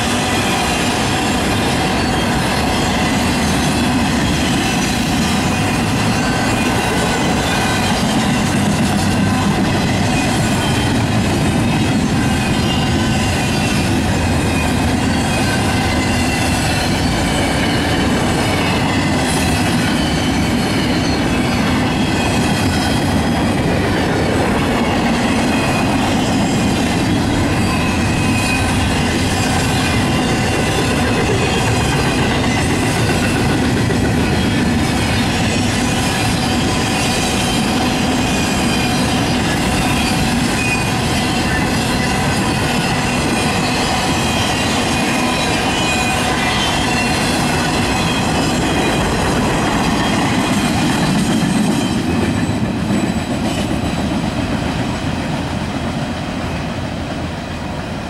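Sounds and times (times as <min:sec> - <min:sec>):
high wheel squeal: 0:00.0 - 0:54.1
steel wheels rumbling on rail: 0:00.0 - 0:58.0.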